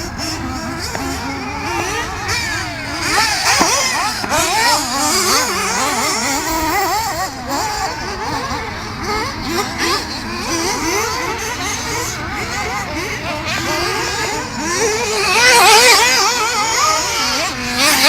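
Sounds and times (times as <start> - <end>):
small nitro engines revving: 0.0 - 18.0.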